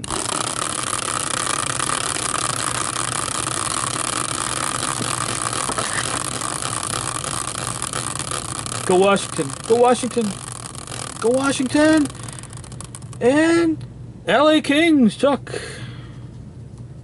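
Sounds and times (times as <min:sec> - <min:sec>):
wheel spinning with whirring hiss: 0:00.0 - 0:13.8.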